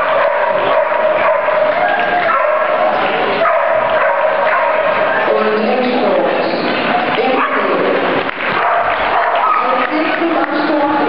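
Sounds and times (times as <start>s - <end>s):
dogs barking and yipping: 0.0s - 9.9s
crowd chatter: 0.0s - 11.0s.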